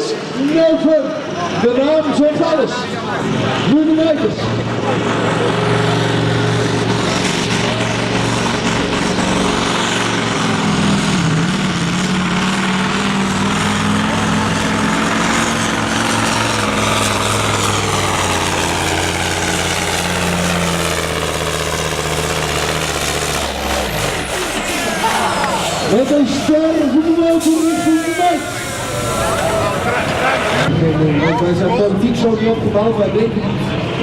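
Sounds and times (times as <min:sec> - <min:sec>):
truck engine running hard: 0:00.0 - 0:34.0.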